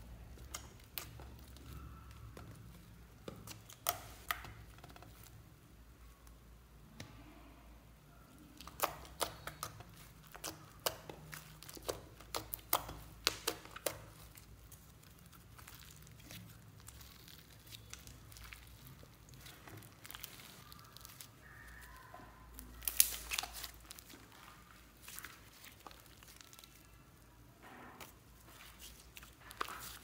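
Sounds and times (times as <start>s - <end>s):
slime crackling and popping: 0.0s - 5.4s, 8.3s - 30.0s
slime squishing: 0.0s - 5.6s, 8.1s - 30.0s.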